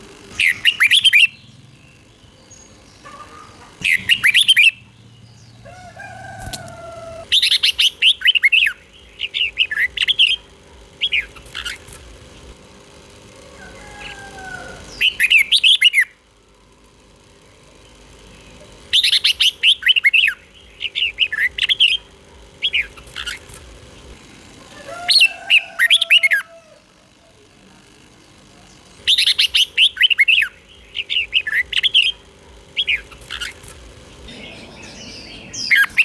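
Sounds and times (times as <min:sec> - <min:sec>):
bulbul chirping song: 0:00.3 - 0:12.6, 0:13.4 - 0:16.3, 0:17.4 - 0:24.2, 0:24.8 - 0:26.7, 0:28.2 - 0:36.0.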